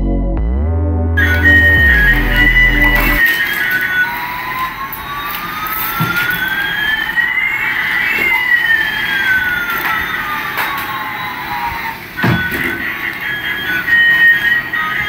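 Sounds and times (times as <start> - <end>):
gliding electronic tones: 1.2 - 15.0.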